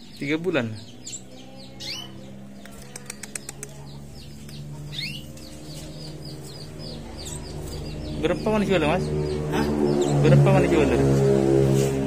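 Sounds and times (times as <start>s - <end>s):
canaries chirping: 0.0s - 12.0s
steady low hum: 0.0s - 12.0s.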